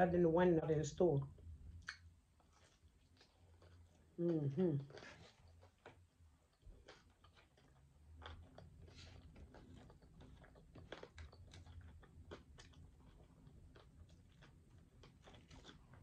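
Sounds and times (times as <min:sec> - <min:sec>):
chewing with wet mouth clicks: 0:01.8 - 0:04.1, 0:04.8 - 0:16.0.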